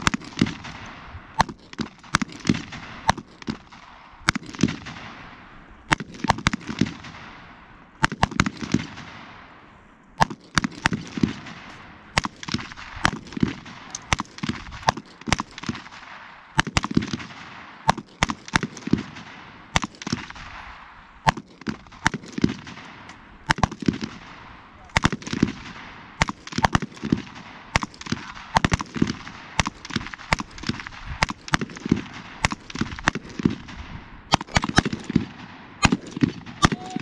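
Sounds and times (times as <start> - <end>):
echoing gunshots: 0.0 - 37.0.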